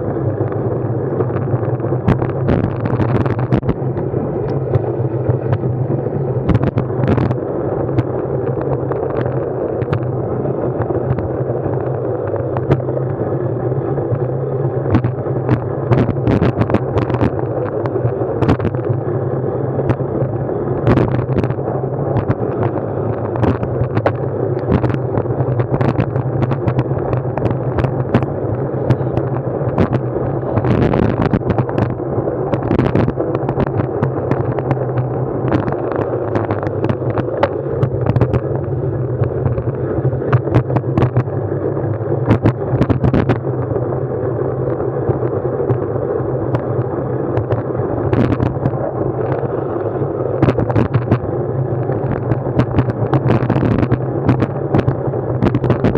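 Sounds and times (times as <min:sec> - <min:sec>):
wind and road noise rumble: 0:00.0 - 0:55.9.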